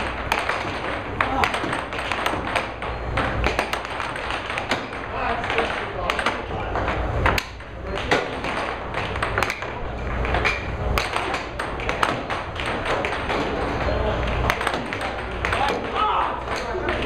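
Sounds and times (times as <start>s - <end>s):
air hockey puck and mallets clacking: 0.0s - 17.0s
puck hitting table rails: 0.0s - 17.0s.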